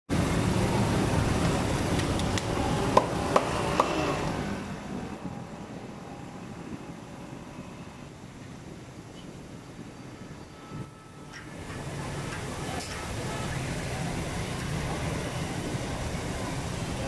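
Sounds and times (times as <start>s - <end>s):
street food stall din: 0.1s - 17.0s.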